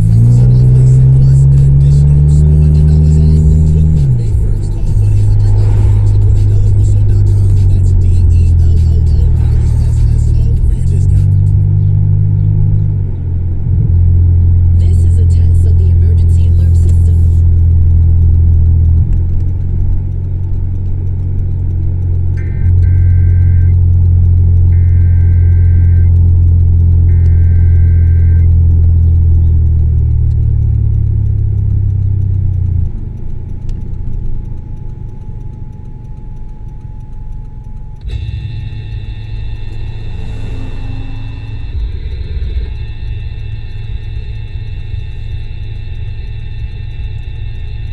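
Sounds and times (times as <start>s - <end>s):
short electronic beeps: 0.0s - 12.6s, 14.5s - 20.0s, 22.3s - 47.9s
loud low exhaust drone: 0.0s - 47.9s.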